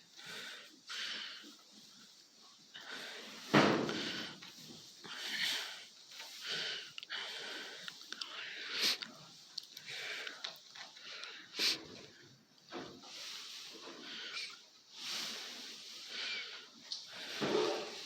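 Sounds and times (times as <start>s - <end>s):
cows eating: 0.0s - 14.6s
rustling: 0.0s - 18.0s.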